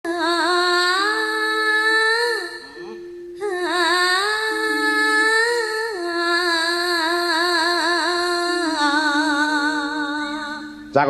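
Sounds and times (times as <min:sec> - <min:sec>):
woman singing with vibrato: 0:00.0 - 0:10.9.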